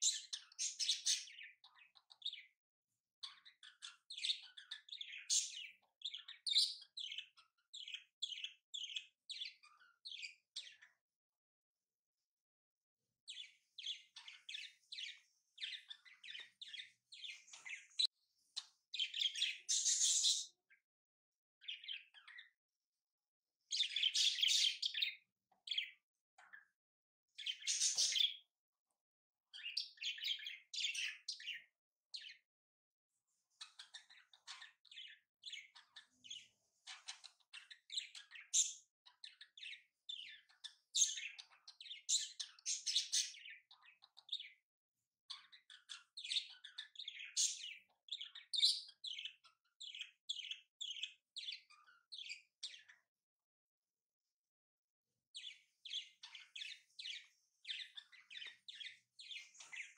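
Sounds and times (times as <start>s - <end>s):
birds chirping and twittering: 0.0s - 12.4s, 13.0s - 54.0s, 55.0s - 59.9s.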